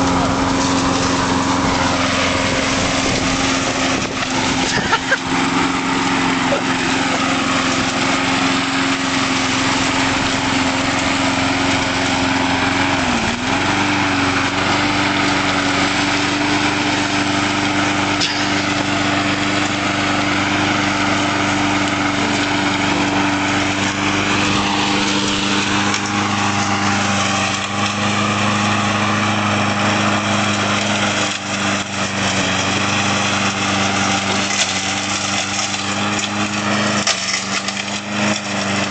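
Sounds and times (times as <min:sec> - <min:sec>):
lawnmower engine at high revs: 0:00.0 - 0:38.9.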